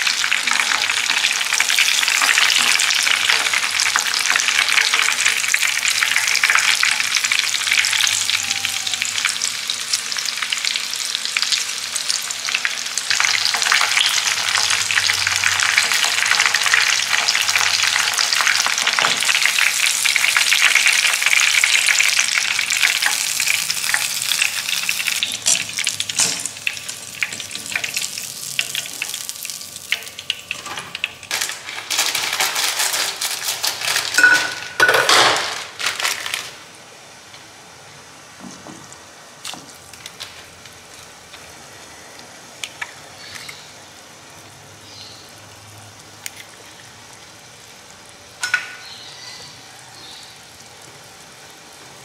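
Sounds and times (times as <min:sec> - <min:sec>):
chicken frying in oil: 0:00.0 - 0:34.3, 0:38.6 - 0:52.0
pan of water heating: 0:00.0 - 0:52.0.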